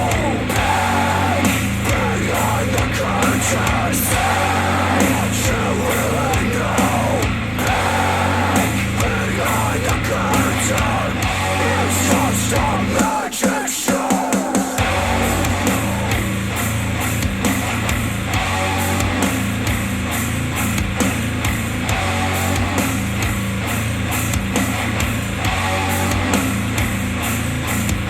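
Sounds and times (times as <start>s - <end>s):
rock music with guitar and bass: 0.0s - 28.0s.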